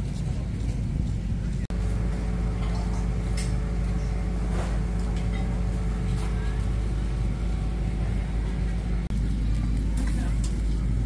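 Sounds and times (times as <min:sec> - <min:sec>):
low mechanical hum and rumble: 0:00.0 - 0:11.0.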